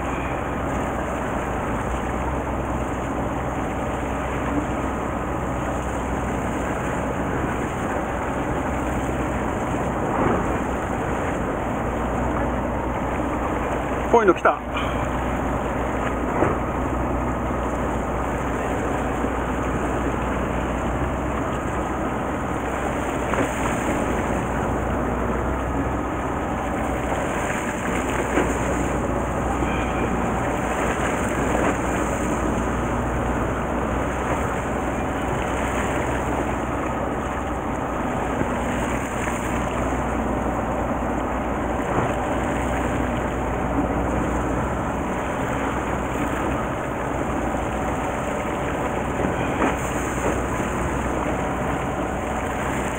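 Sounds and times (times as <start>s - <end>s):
boat engine idling: 0.0s - 52.9s
sea water and wind noise: 0.0s - 52.9s.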